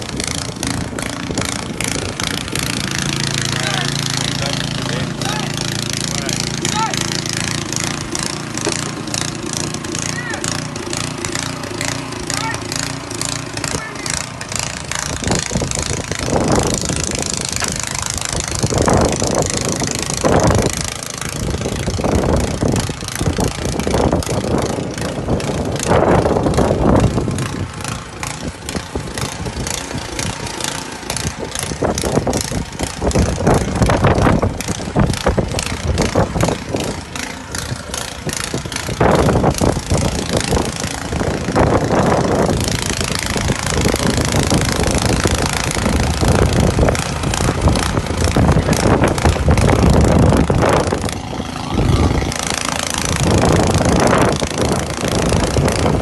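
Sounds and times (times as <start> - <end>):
snow blower engine running: 0.0 - 56.0.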